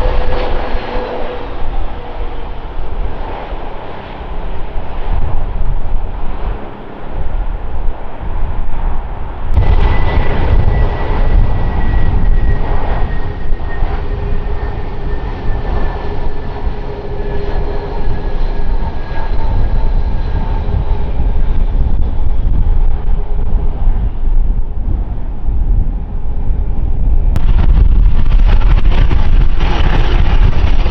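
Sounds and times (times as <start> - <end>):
jet airliner engines passing: 0.0 - 30.9.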